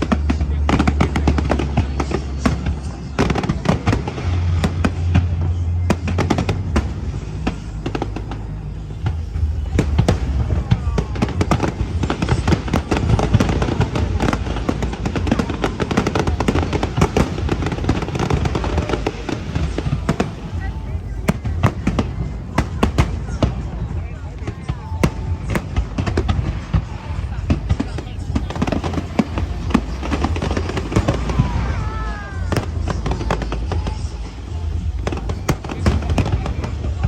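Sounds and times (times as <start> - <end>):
fireworks bursting and crackling: 0.0 - 37.0
music playing: 0.0 - 37.0.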